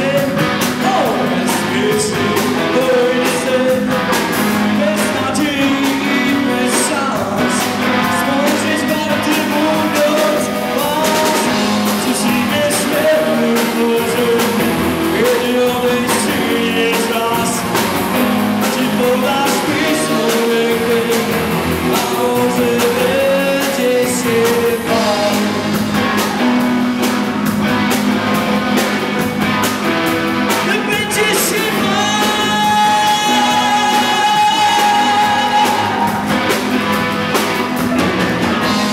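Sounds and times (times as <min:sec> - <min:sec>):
rock song with singing: 0:00.0 - 0:38.9.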